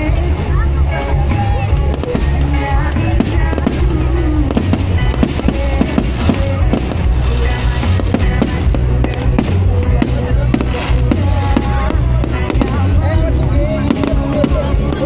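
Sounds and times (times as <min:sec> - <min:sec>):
fireworks bangs and crackles: 0:00.0 - 0:15.0
music playing: 0:00.0 - 0:15.0.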